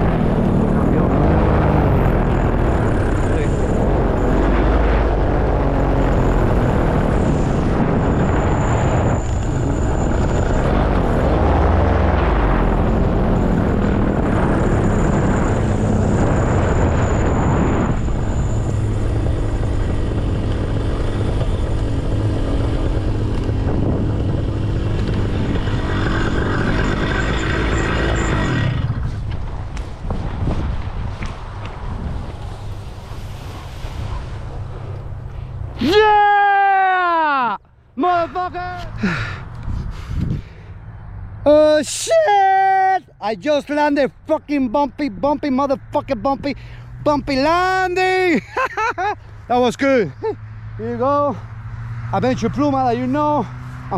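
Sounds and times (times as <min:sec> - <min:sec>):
paramotor engine and propeller: 0:00.0 - 0:35.9, 0:46.1 - 0:53.9
wind rushing over microphone: 0:00.0 - 0:37.0, 0:37.8 - 0:53.9.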